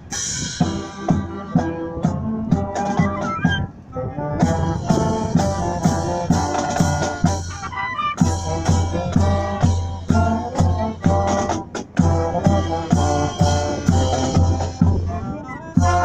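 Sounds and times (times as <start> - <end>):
steady drum beat: 0.0 - 3.7, 4.4 - 16.0
marching band playing: 0.0 - 16.0.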